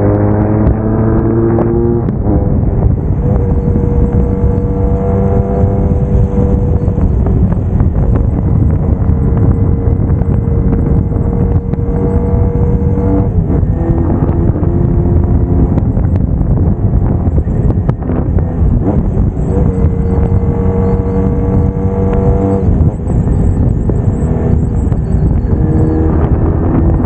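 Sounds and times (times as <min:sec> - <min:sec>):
motorcycle engine cruising: 0:00.0 - 0:27.0
wind rush: 0:00.0 - 0:27.0.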